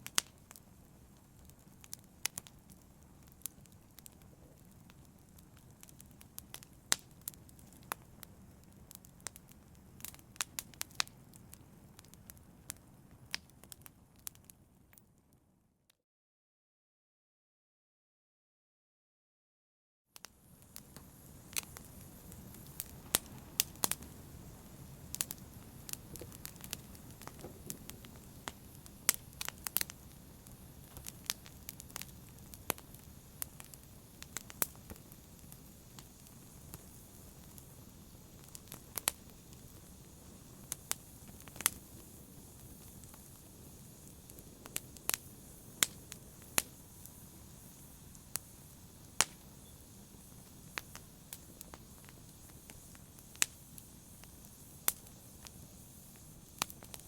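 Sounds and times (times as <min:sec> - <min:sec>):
wood fire crackling: 0:00.0 - 0:15.0, 0:20.2 - 0:57.0.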